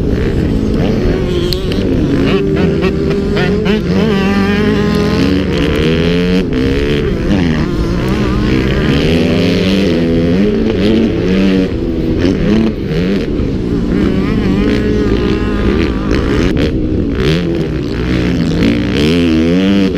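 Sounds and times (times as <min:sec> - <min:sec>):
motocross bike engines revving: 0:00.0 - 0:19.9.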